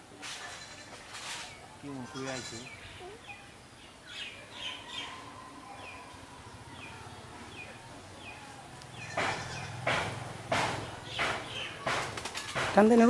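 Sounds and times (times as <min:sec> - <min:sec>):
bird chirping: 0:00.6 - 0:13.0.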